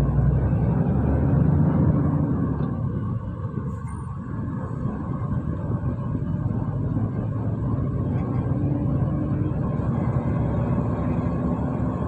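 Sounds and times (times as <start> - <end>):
diesel lorry engine rumble: 0.0 - 12.0
road noise: 0.0 - 12.0.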